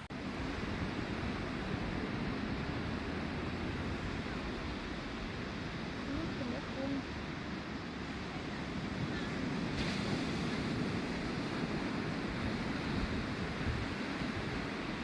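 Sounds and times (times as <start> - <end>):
ocean surf washing in: 0.0 - 15.0
wind on microphone: 0.0 - 15.0.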